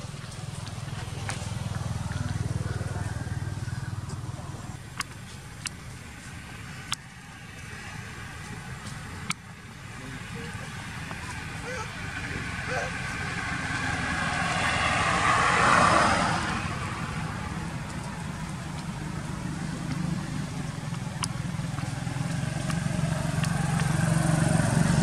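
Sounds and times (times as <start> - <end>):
low engine hum: 0.0 - 25.0
vehicle passing on road: 0.0 - 25.0.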